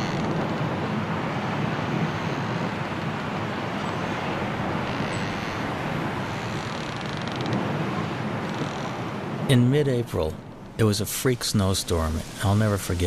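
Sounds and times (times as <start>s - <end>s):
storm wind through trees: 0.0s - 13.0s.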